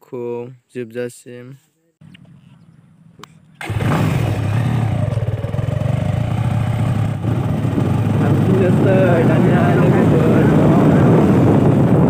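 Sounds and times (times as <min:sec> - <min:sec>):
motorcycle engine running: 0:02.1 - 0:12.0.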